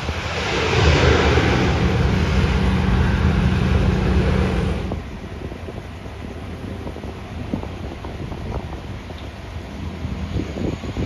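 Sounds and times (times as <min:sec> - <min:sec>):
low propeller hum: 0:00.0 - 0:11.0.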